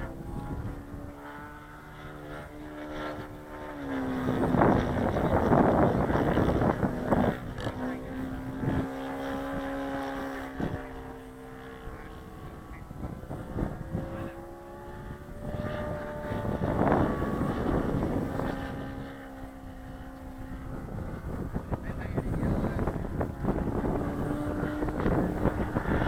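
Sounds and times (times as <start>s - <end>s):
model airplane engine running: 0.0s - 26.0s.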